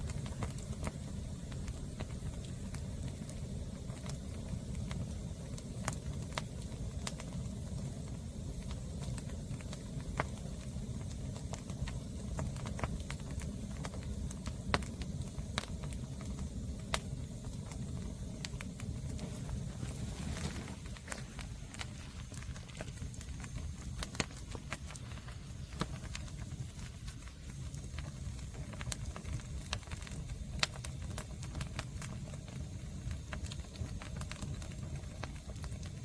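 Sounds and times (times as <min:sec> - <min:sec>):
fire low rumble: 0:00.0 - 0:36.0
firewood crackling and popping: 0:00.0 - 0:36.0.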